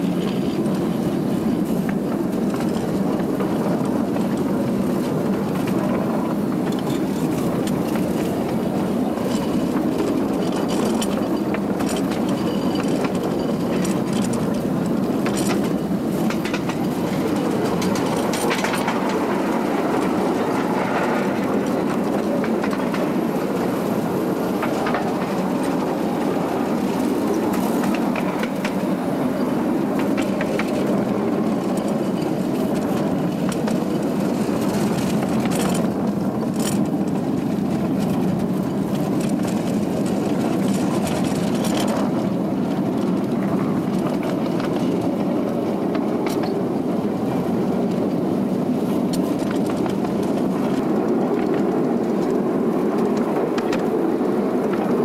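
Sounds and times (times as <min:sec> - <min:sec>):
steam locomotive rumbling: 0:00.0 - 0:55.0
wheels clicking on rails: 0:00.0 - 0:55.0.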